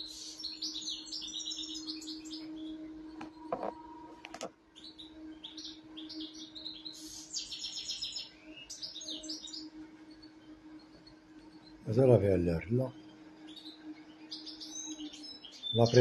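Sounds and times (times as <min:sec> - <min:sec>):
small birds chirping and twittering: 0:00.0 - 0:16.0
steady low hum: 0:00.0 - 0:16.0.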